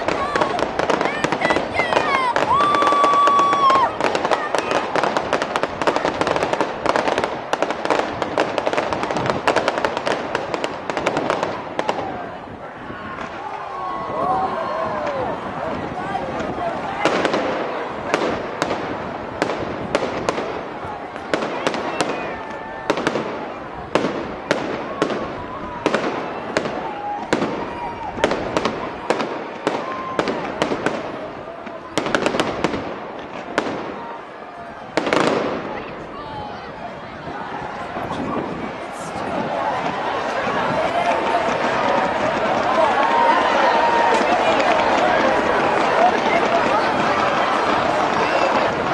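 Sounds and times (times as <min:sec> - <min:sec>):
fireworks popping and crackling: 0:00.0 - 0:36.2, 0:37.2 - 0:48.9.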